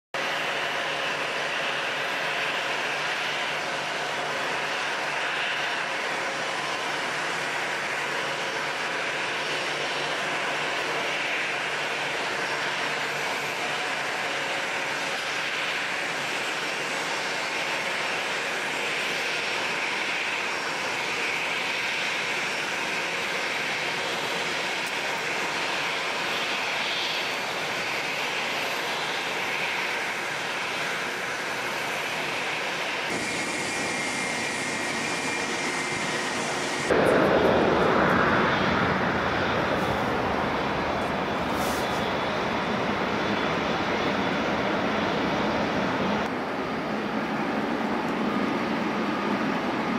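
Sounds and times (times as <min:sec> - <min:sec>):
deep jet noise taxiing: 0:00.2 - 0:49.9
jet engines running: 0:00.2 - 0:49.9.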